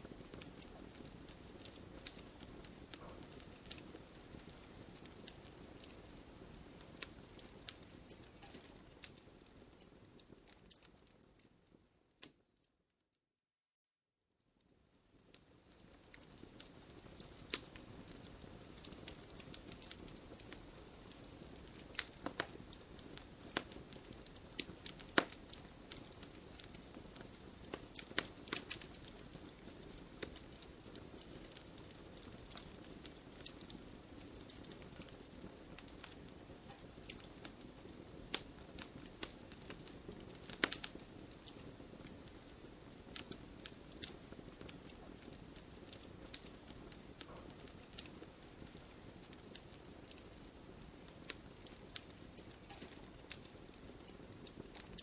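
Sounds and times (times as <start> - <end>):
campfire flames hissing: 0.0 - 11.1, 15.1 - 55.0
burning wood crackling and popping: 0.0 - 12.5, 14.6 - 55.0.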